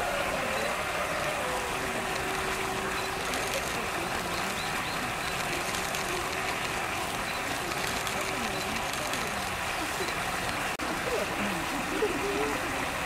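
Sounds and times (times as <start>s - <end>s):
distant people murmuring: 0.0s - 13.0s.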